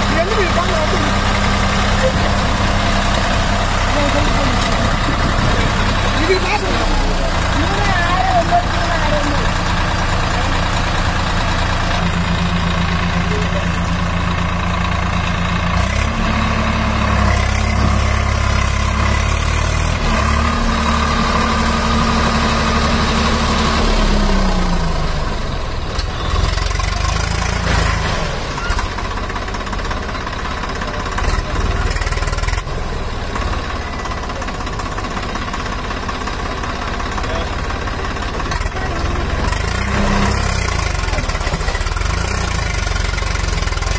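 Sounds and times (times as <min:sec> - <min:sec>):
tractor diesel engine revving: 0:00.0 - 0:43.9.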